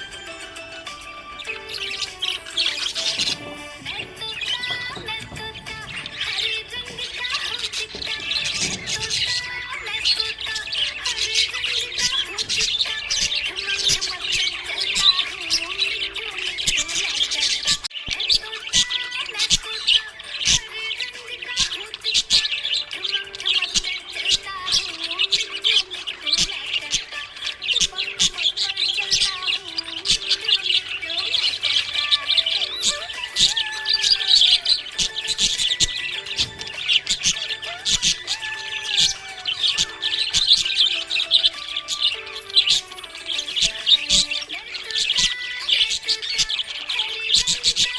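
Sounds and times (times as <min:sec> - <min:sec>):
parrots chirping and chattering: 0:00.0 - 0:47.9.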